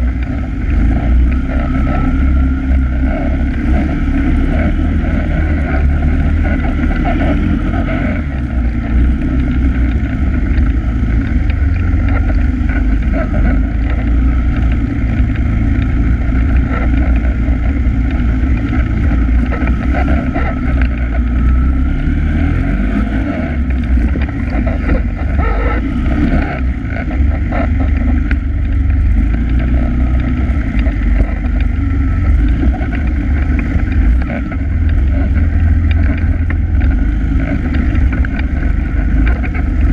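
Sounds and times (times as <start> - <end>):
quad engine rumbling: 0.0 - 39.9.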